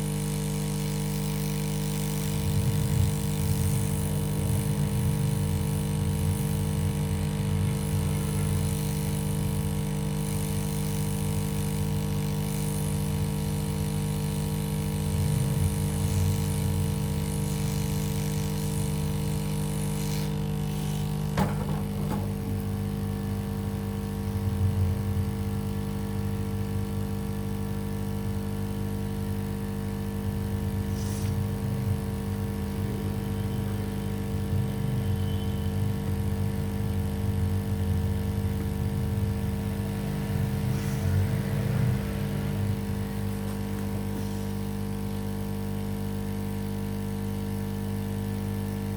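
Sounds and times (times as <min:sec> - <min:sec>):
electrical equipment hum: 0:00.0 - 0:46.7.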